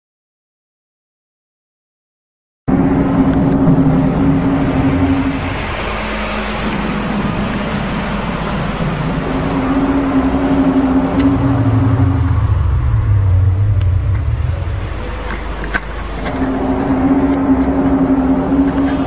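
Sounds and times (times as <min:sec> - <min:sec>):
deep rumble: 0:02.7 - 0:19.0
low drone: 0:02.7 - 0:19.0.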